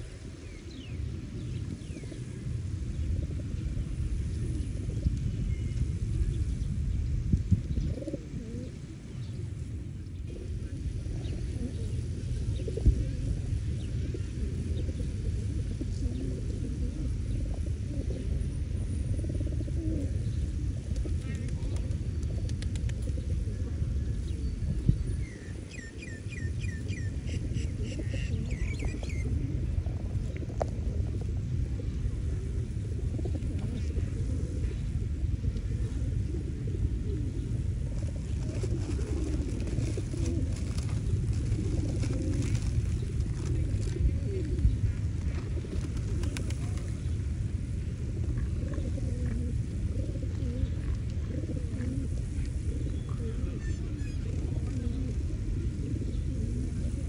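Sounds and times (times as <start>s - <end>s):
low rumble of traffic: 0.0s - 57.0s
pigeons cooing: 0.0s - 57.0s.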